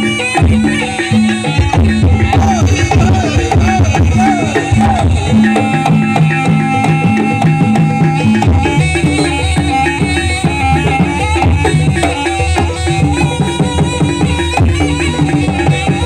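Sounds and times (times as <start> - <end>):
gamelan music: 0.0 - 16.0
hand drums rhythm: 0.0 - 16.0
struck metallophones: 0.0 - 16.0.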